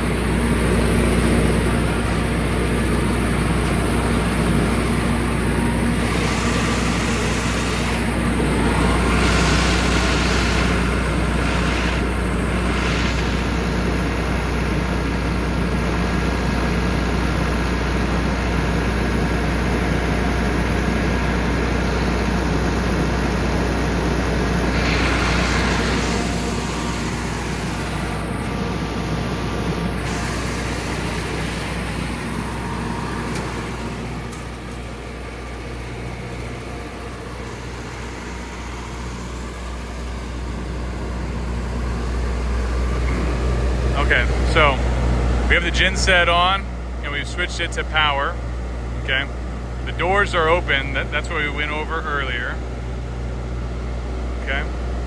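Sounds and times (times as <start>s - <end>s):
generator engine droning: 0.0s - 55.0s.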